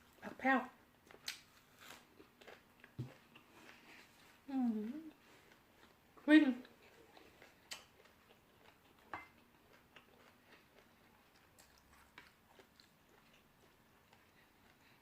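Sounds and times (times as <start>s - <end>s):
faint chewing crunches: 1.0s - 15.0s.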